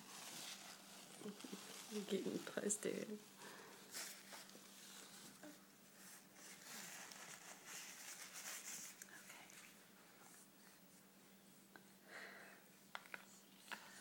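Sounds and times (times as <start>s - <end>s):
faint rustling: 0.0s - 11.7s.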